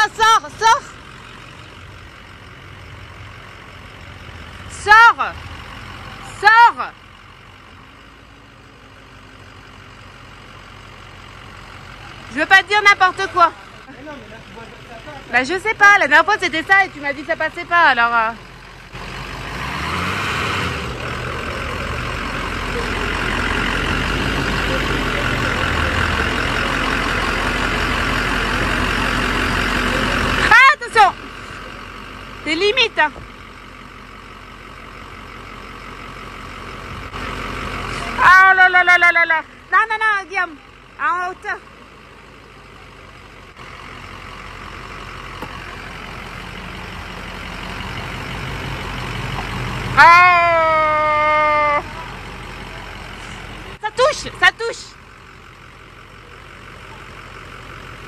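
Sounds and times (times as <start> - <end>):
pickup engine idling: 0.0 - 19.7, 20.6 - 58.0.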